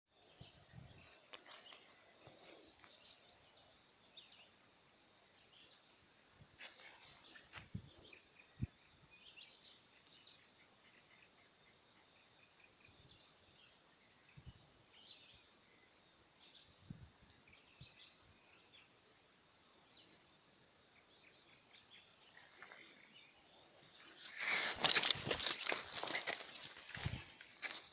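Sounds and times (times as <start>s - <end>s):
high-pitched insect trill: 0.2s - 27.9s.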